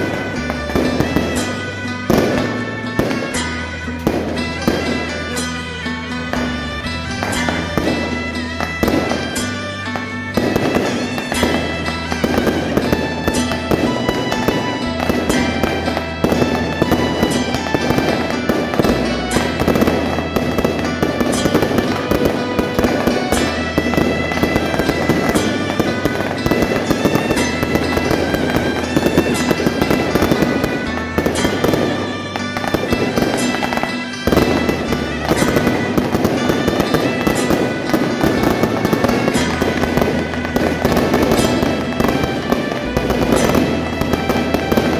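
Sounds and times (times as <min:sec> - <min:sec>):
firecrackers crackling: 0:00.0 - 0:44.9
music playing: 0:00.0 - 0:44.9.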